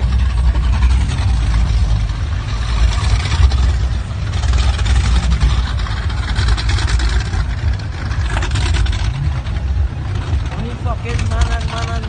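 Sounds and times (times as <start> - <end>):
motorboat engine rumbling: 0.0 - 12.0.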